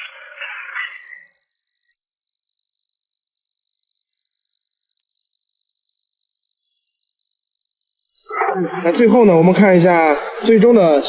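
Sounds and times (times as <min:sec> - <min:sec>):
laser welder hissing: 0:00.0 - 0:11.0.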